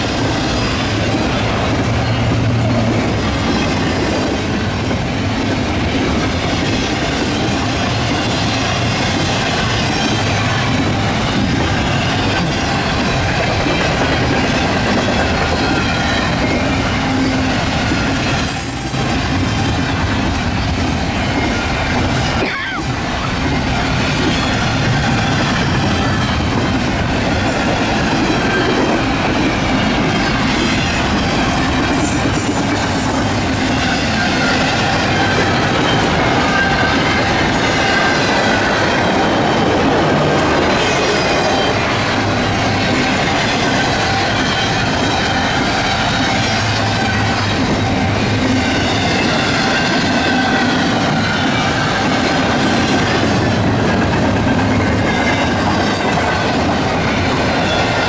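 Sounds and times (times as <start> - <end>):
freight train wheels rolling: 0.0 - 58.0.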